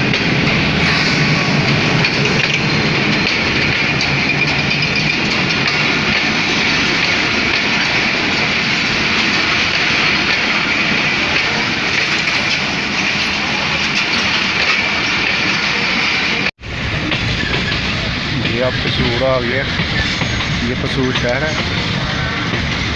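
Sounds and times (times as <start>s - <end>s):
passenger train running on track: 0.0s - 22.9s.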